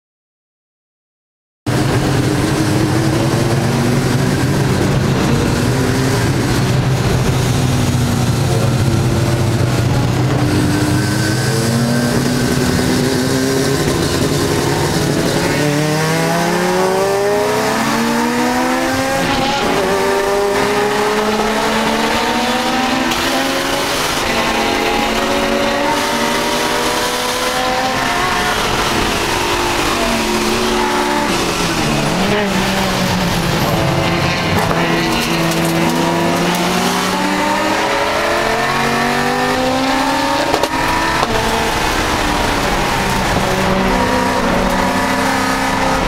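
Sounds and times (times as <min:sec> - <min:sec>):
race car engine: 0:01.7 - 0:46.0
road and wind noise: 0:01.7 - 0:46.0.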